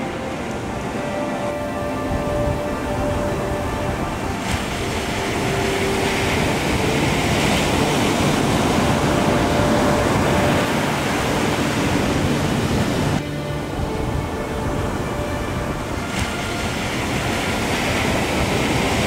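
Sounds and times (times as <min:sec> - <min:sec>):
ocean waves breaking: 0:00.0 - 0:19.0.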